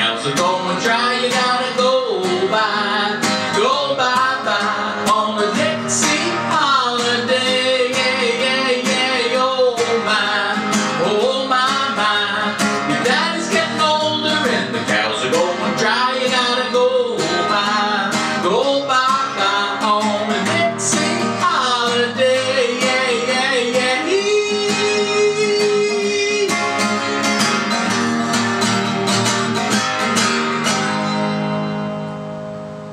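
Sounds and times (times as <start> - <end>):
man singing: 0.0 - 27.2
acoustic guitar strumming: 0.0 - 32.9.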